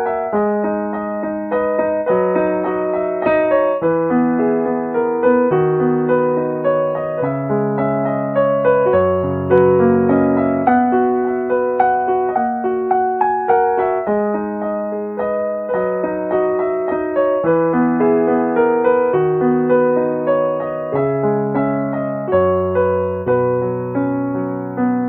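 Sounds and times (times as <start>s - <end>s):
calm piano music: 0.0s - 25.0s.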